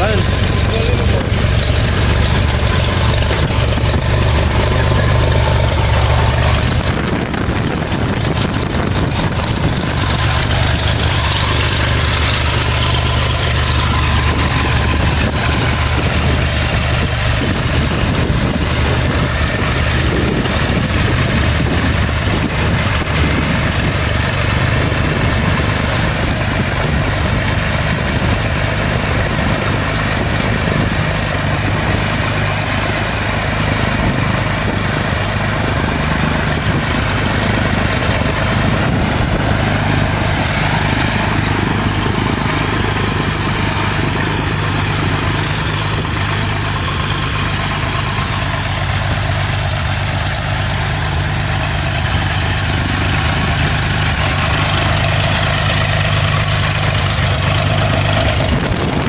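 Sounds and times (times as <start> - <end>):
aircraft piston engine running: 0.0 - 59.0.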